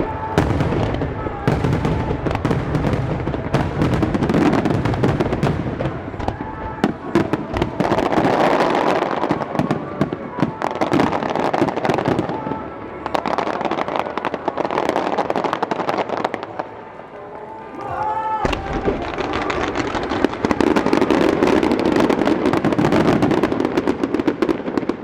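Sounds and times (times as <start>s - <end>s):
background music: 0.0s - 25.0s
fireworks bursting and crackling: 0.0s - 25.0s.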